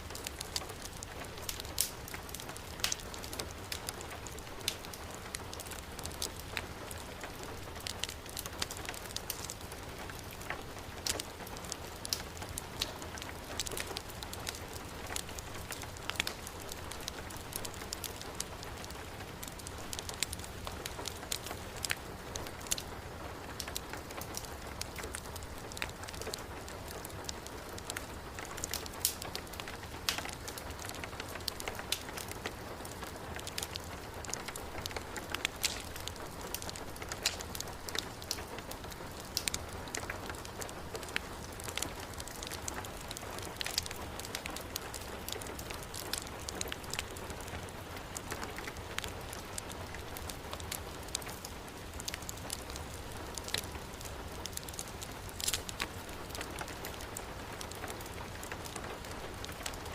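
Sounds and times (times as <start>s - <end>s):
heavy rain: 0.0s - 59.9s
wood fire crackling and popping: 0.0s - 59.9s.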